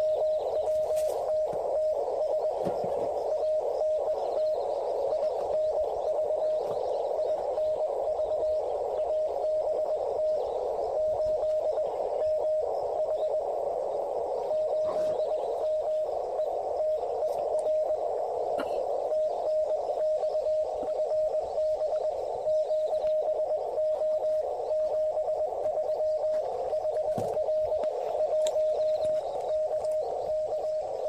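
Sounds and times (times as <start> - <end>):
morse code tone: 0.0 - 31.0
radio band hiss: 0.0 - 31.0.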